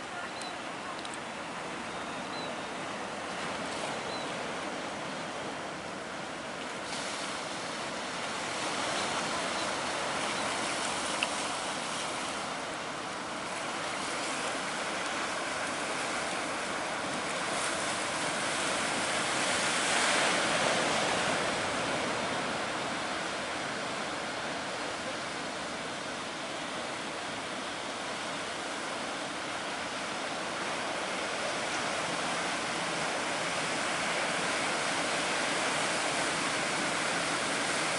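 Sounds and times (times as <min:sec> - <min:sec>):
ocean surf breaking: 0:02.8 - 0:37.9.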